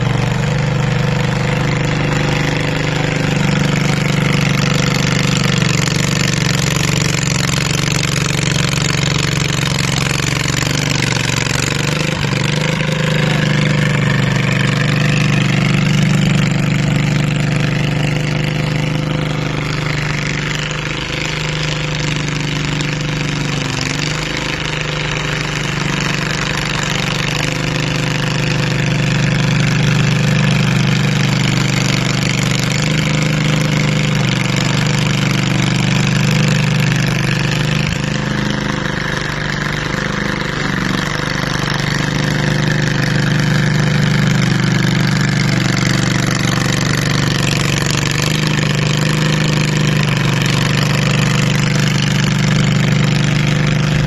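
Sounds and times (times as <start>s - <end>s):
plow blade pushing snow: 0.0s - 54.0s
small tractor engine running: 0.0s - 54.0s.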